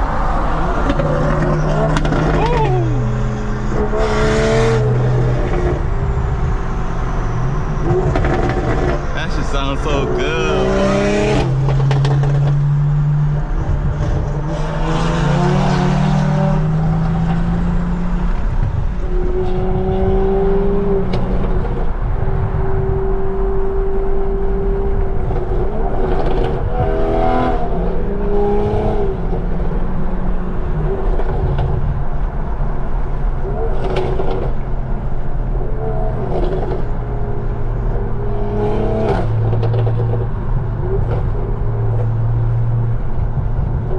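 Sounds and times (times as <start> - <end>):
car engine accelerating through gears: 0.0 - 43.9.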